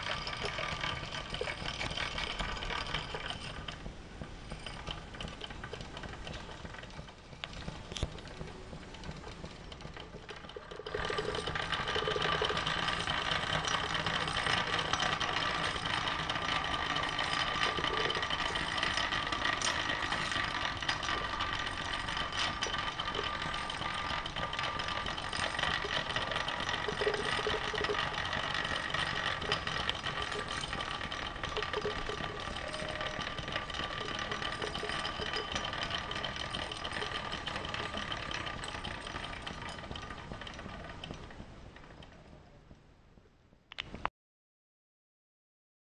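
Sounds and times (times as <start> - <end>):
steam engine clatter: 0.0 - 42.7.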